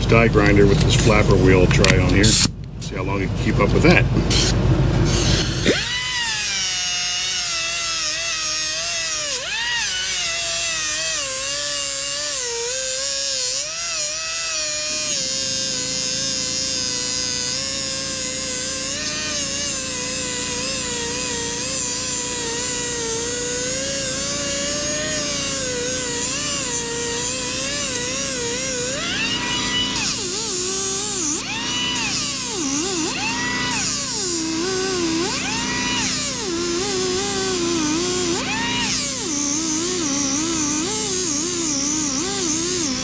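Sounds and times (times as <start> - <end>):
air compressor pump drone: 0.0 - 43.0
die grinder whine on metal: 0.0 - 43.0.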